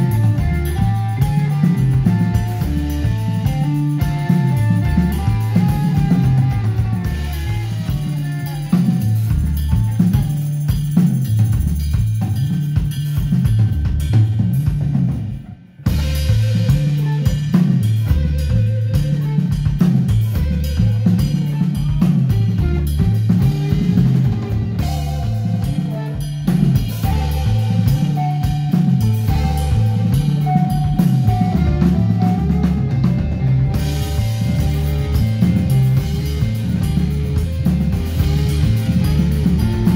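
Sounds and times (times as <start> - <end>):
repeating bass line: 0.0 - 15.1, 15.9 - 39.9
busy drumming: 0.0 - 39.9
rock band playing: 0.0 - 39.9.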